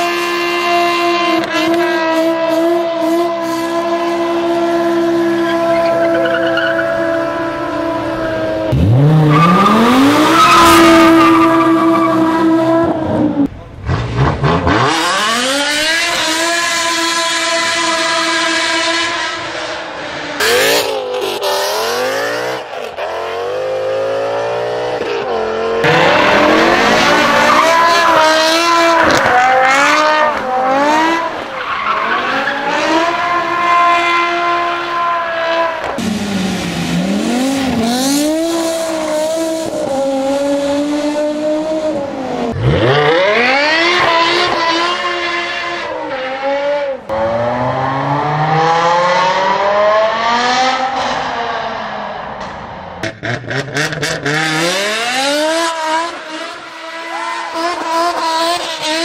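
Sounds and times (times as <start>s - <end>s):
car engine revving and accelerating: 0.0s - 59.0s.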